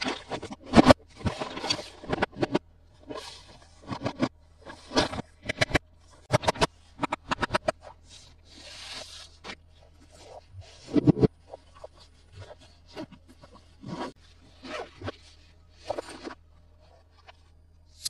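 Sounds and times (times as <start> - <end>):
scraping and rustling packaging: 0.0 - 17.6.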